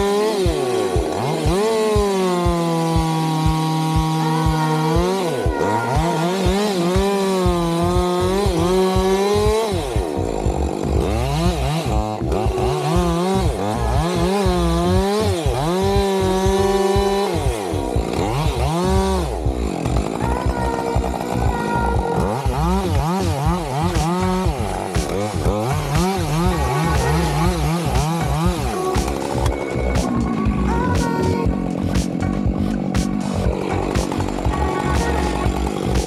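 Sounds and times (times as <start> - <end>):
chainsaw cutting wood: 0.0 - 36.0.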